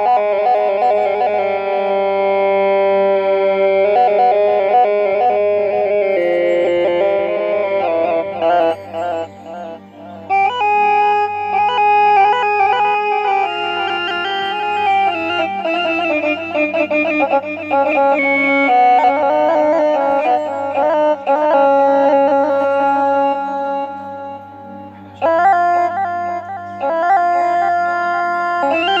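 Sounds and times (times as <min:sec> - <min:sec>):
keyboard rebab melody: 0:00.0 - 0:29.0.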